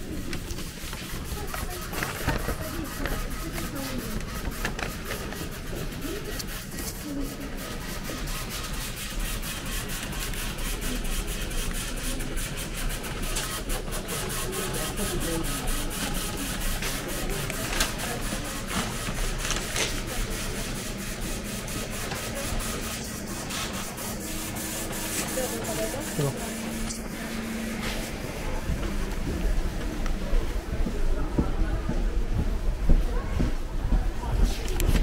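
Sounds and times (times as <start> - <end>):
passengers' voices: 0.0 - 35.0
ventilation hum: 0.0 - 35.0.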